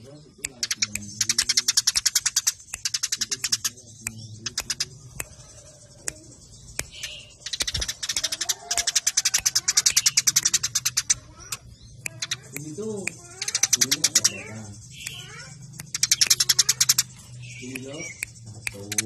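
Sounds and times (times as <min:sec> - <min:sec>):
sparrows chirping in fast runs: 0:00.0 - 0:19.0.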